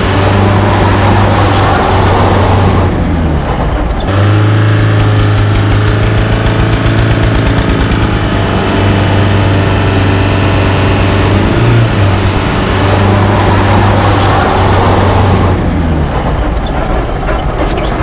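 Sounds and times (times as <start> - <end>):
diesel engines running under load: 0.0 - 18.0.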